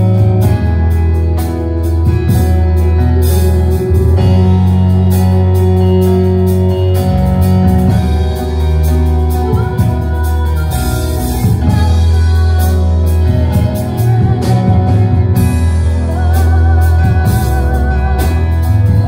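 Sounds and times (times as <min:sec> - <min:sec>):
worship band music: 0:00.0 - 0:19.0.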